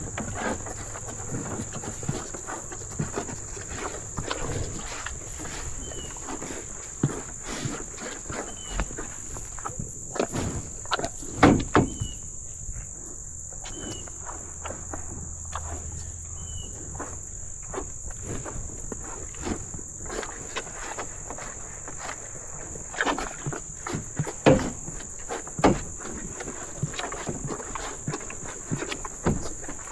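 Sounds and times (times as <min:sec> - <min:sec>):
cattle hoof steps and knocks: 0:00.0 - 0:12.3, 0:13.5 - 0:29.9
high insect drone: 0:00.0 - 0:29.9.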